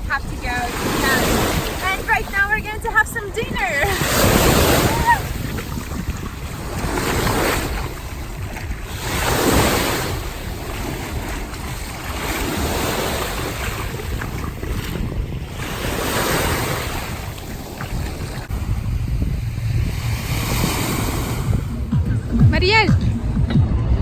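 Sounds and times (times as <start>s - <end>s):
sea waves washing onto shore: 0.0s - 22.0s
wind rumbling on microphone: 0.0s - 24.0s.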